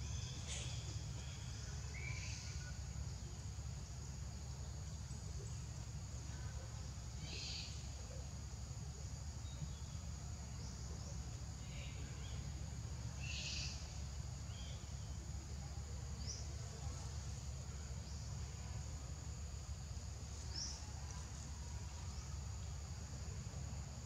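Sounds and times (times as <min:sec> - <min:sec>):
insects droning: 0:00.0 - 0:24.0
low steady rumble: 0:00.0 - 0:24.0.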